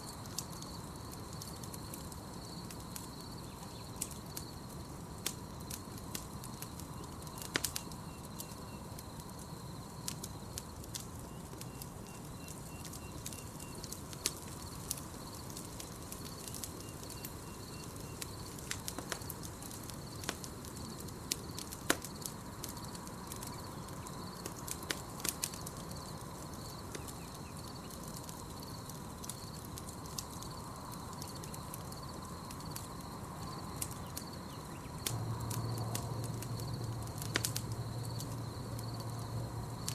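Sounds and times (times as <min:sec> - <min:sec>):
campfire crackling: 0:00.0 - 0:39.9
night forest background: 0:00.0 - 0:39.9.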